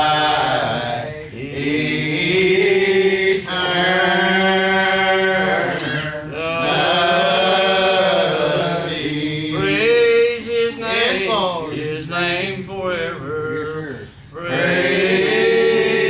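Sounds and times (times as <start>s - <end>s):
voices singing a slow hymn: 0.0s - 16.0s.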